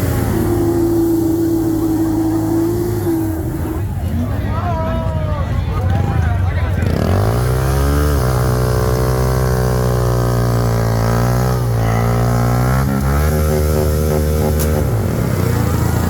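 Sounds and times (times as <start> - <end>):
engine revving: 0.0 - 4.2, 5.9 - 16.0.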